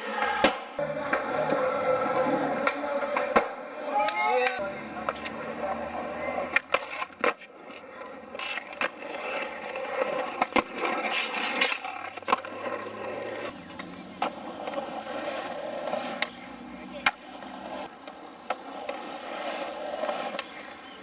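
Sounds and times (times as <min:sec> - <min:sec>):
skateboard wheels rolling on concrete: 0:00.0 - 0:21.0
sharp skateboard clacks: 0:00.1 - 0:05.4, 0:08.4 - 0:21.0.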